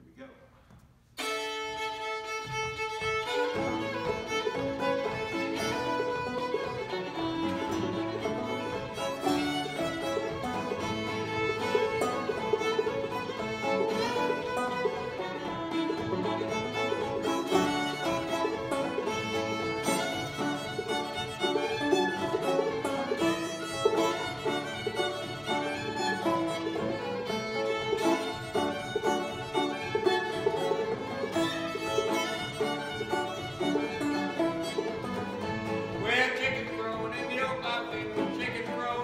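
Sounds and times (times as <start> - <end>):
string band playing: 1.0 - 39.0.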